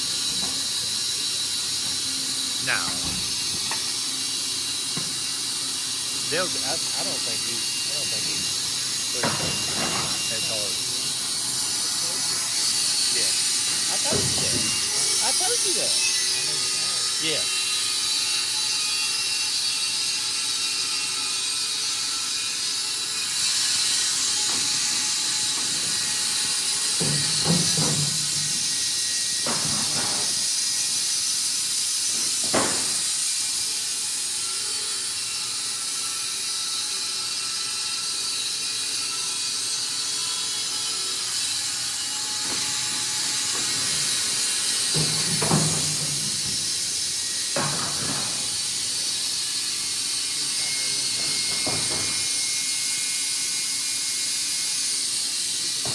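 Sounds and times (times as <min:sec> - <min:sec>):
band sawmill hissing: 0:00.0 - 0:19.3, 0:22.4 - 0:36.4, 0:38.4 - 0:53.4.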